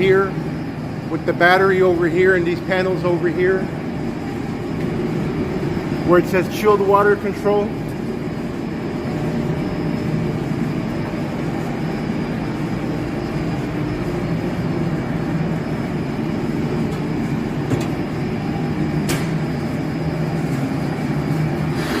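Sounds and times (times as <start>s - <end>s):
machinery low drone: 0.0s - 22.0s.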